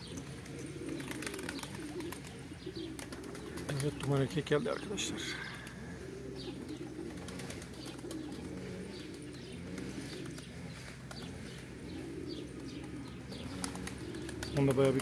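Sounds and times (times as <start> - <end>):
pigeons cooing: 0.0 - 15.0
wings flapping: 0.2 - 4.4, 6.6 - 15.0.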